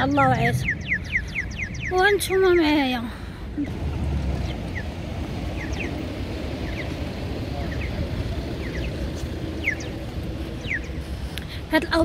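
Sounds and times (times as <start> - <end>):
low rumble with general din: 0.0 - 12.0.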